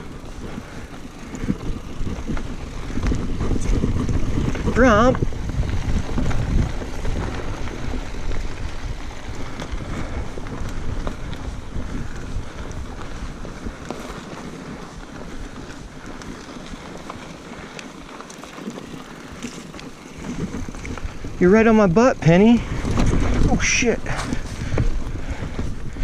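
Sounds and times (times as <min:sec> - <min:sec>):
bike rattling: 0:00.0 - 0:26.0
bike tyres rumbling: 0:00.0 - 0:26.0
wind buffeting microphone: 0:00.0 - 0:26.0.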